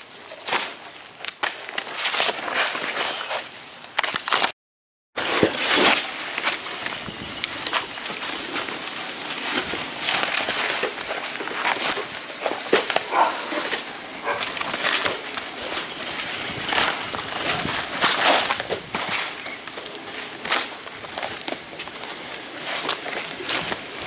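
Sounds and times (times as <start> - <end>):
shingles scraping and tearing: 0.4 - 4.5, 5.2 - 24.0.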